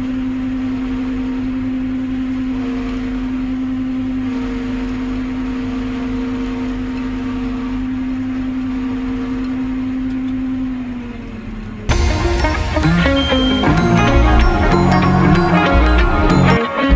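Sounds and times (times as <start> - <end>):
harvester mechanical drone: 0.0 - 16.9.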